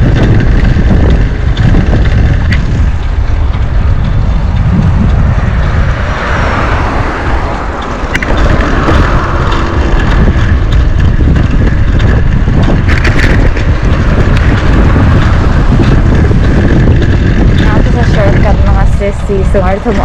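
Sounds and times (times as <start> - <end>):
sharp clicks or rattles: 0.0 - 20.0
wind buffeting microphone: 0.0 - 20.0.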